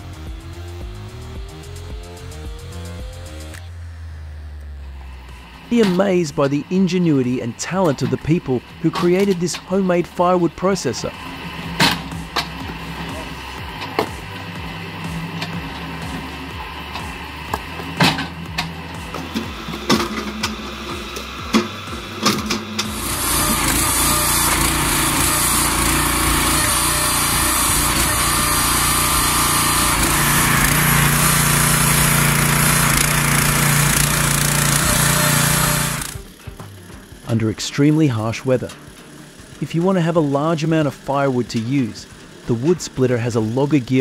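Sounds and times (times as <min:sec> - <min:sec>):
log splitter motor humming: 0:00.0 - 0:44.0
small petrol engine running: 0:00.0 - 0:44.0.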